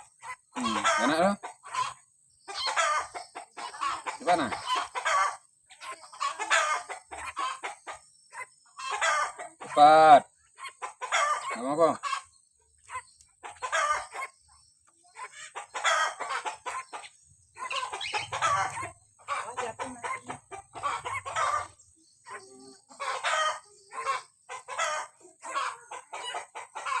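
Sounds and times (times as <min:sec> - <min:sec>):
bird harsh calls: 0:00.0 - 0:27.0.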